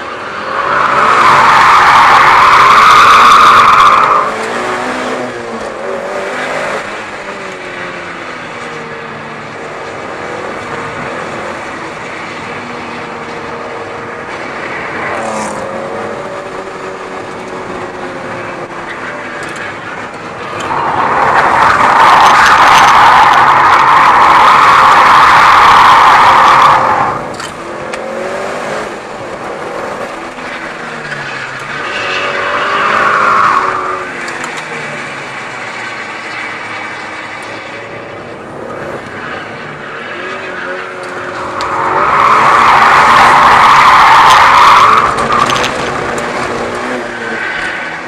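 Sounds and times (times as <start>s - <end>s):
car engine running hard: 0.0s - 48.0s
wind: 0.0s - 48.0s.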